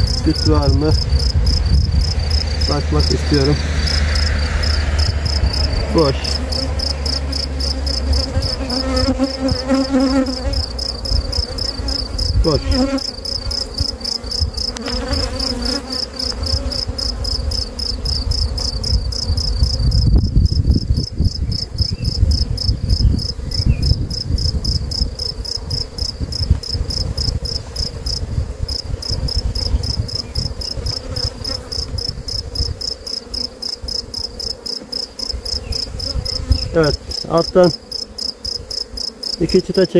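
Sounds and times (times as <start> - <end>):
wind rumbling on microphone: 0.0 - 15.6, 16.4 - 33.0, 35.3 - 37.6
honeybees humming: 0.0 - 39.9.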